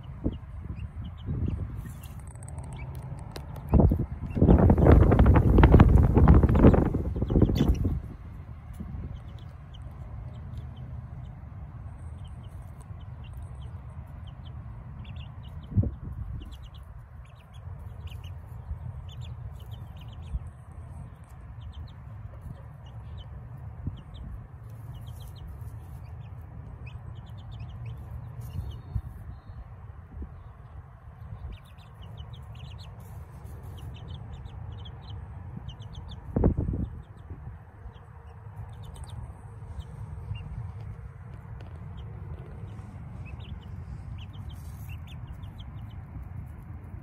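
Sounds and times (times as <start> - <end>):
chicks peeping: 0.0 - 47.0
low rumble: 0.0 - 47.0.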